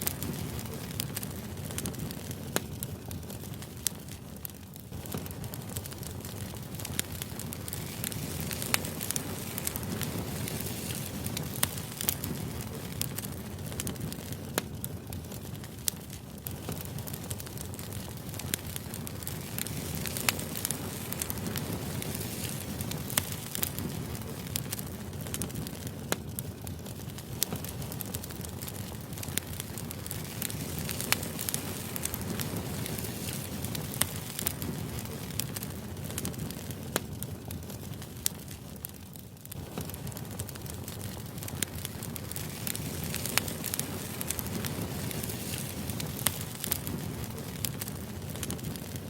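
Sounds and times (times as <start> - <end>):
sharp crackles and clicks: 0.0 - 49.0.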